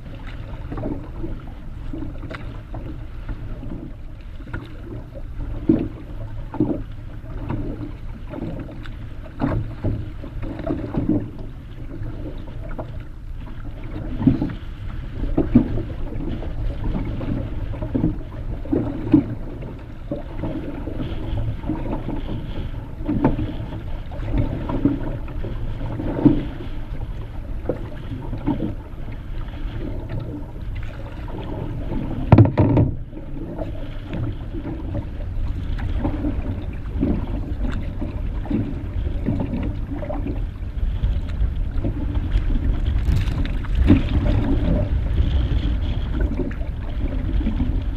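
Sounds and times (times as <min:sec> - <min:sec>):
paddle strokes splashing: 0:00.0 - 0:47.9
waves slapping a hull: 0:00.0 - 0:47.9
wind rumble on microphone: 0:00.0 - 0:47.9.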